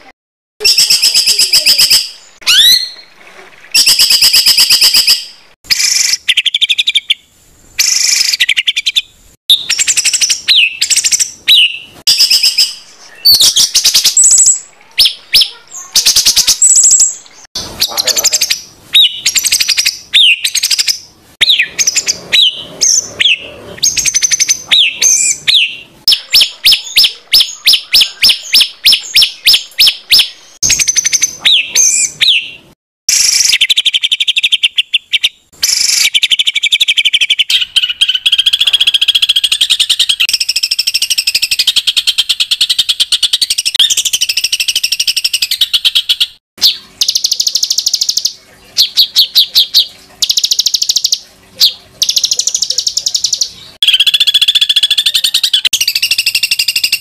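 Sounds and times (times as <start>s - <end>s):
bird chattering trill: 0.0s - 3.0s, 7.8s - 57.0s
songbird singing harsh calls: 0.6s - 3.1s, 3.8s - 57.0s.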